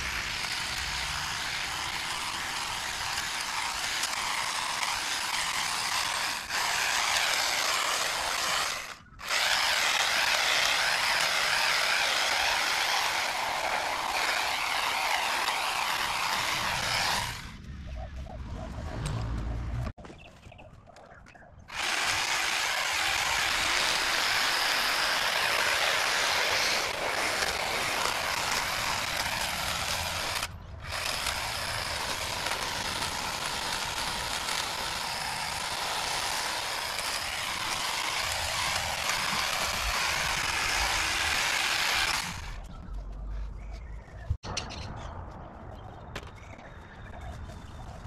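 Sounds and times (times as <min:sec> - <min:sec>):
battery pole saw cutting branches: 0:00.0 - 0:17.6, 0:21.7 - 0:42.7.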